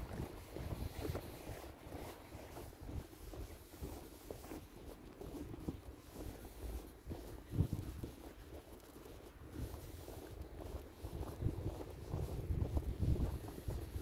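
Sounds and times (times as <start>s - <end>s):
footsteps in snow: 0.0s - 14.0s.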